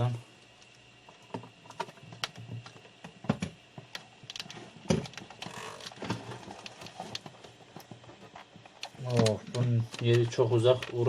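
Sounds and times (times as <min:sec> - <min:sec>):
cables and plastic connectors clicking: 0:00.5 - 0:11.0.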